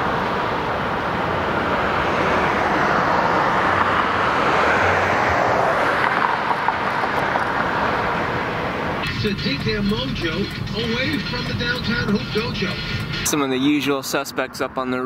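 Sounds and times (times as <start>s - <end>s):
airplane passing overhead: 0.0s - 13.7s.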